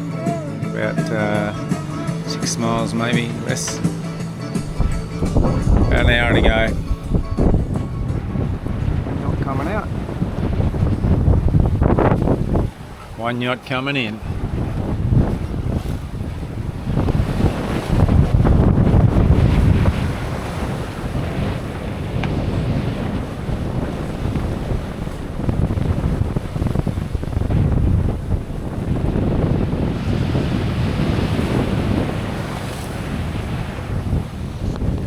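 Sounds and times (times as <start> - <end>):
sea and waves rushing: 0.0 - 35.0
wind buffeting microphone: 0.0 - 35.0.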